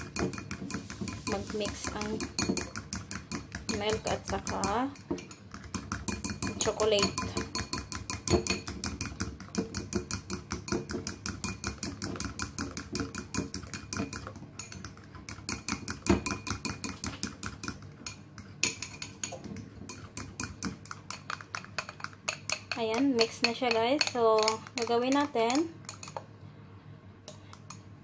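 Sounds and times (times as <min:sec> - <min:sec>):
fork clicking and scraping glass bowl: 0:00.0 - 0:26.3.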